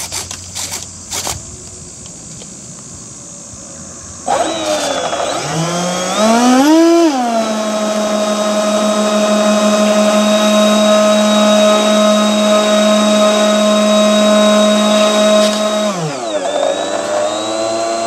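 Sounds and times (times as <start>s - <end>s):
model jet engine whine: 0.0s - 18.0s.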